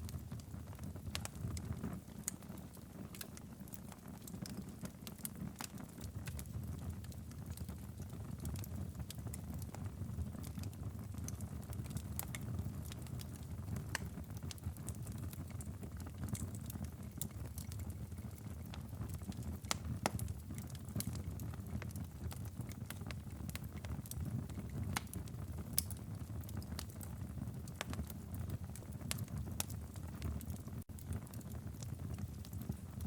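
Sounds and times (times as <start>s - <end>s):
low rumble of fire: 0.0s - 33.0s
wood fire crackling and popping: 0.0s - 33.0s.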